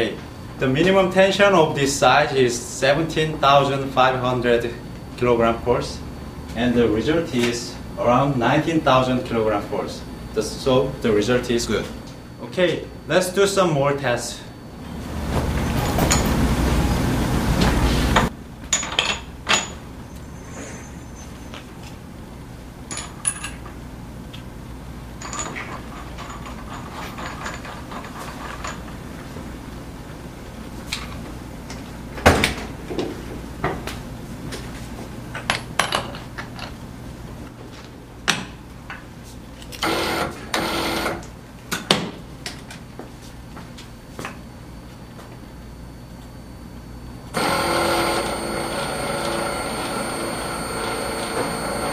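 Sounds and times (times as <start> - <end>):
steady low hum: 0.0 - 35.4, 36.7 - 51.9.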